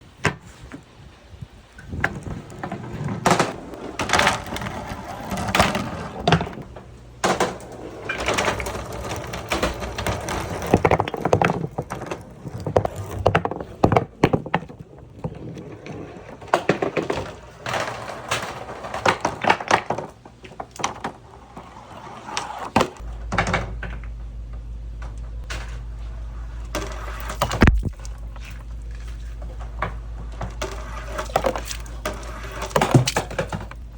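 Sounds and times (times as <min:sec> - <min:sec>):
steady low hum: 0:00.0 - 0:22.2, 0:22.8 - 0:33.9
balls clacking and knocking: 0:01.8 - 0:33.9
balls rolling down wooden tracks: 0:01.8 - 0:33.9.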